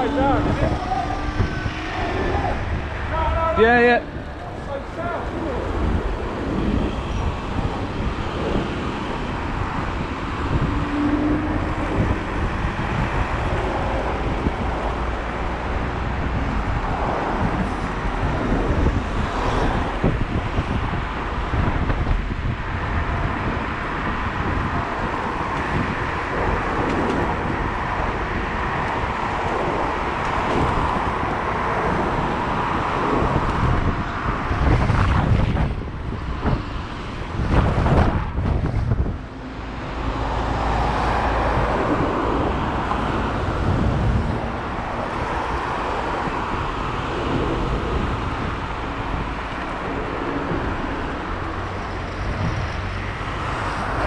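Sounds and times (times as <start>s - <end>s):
road and traffic noise: 0.0s - 54.0s
wind rumbling on microphone: 0.0s - 54.0s.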